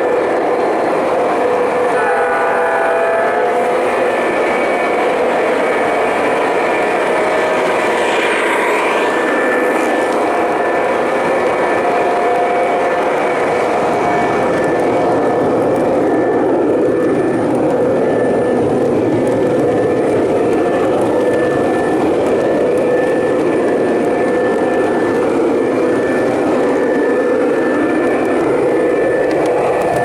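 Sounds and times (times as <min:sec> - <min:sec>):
model train rumbling: 0:00.0 - 0:30.0.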